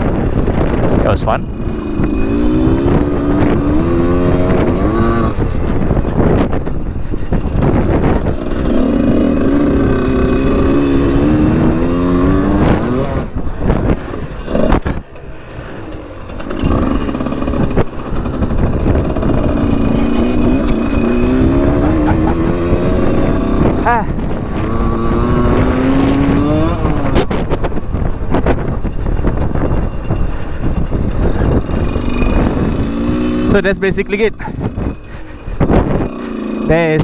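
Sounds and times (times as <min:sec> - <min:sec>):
dirt bike engine revving: 0:00.0 - 0:37.0
wind on microphone: 0:00.0 - 0:37.0.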